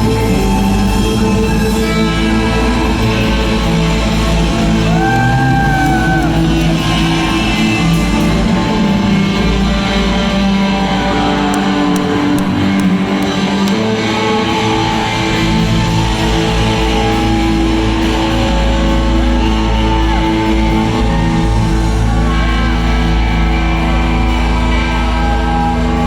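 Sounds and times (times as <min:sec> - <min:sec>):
bass: 0:00.0 - 0:26.0
drums: 0:00.0 - 0:26.0
electric guitars: 0:00.0 - 0:26.0.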